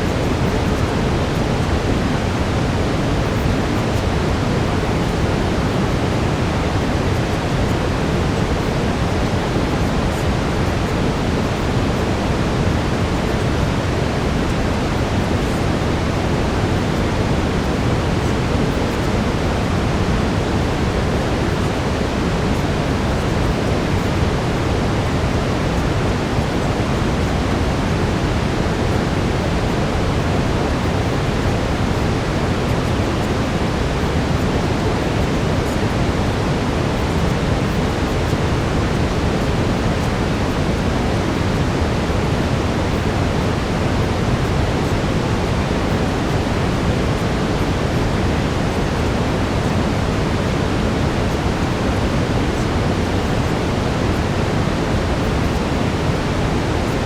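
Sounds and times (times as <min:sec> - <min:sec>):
brown noise: 0:00.0 - 0:57.0.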